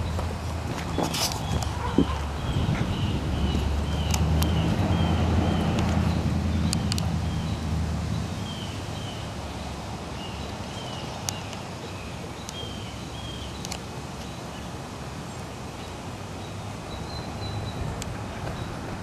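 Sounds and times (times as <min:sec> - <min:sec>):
leaves rustling: 0:00.0 - 0:19.0
wind hissing: 0:00.0 - 0:19.0.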